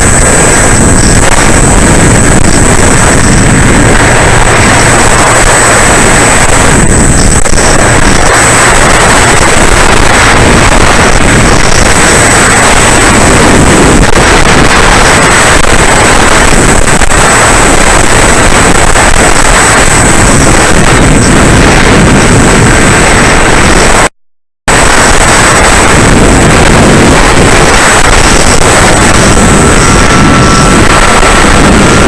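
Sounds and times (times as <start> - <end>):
electric motor drone: 0.0 - 24.1, 24.7 - 32.0
high-pitched whine: 0.0 - 24.1, 24.7 - 32.0
wind rushing over microphone: 0.0 - 32.0.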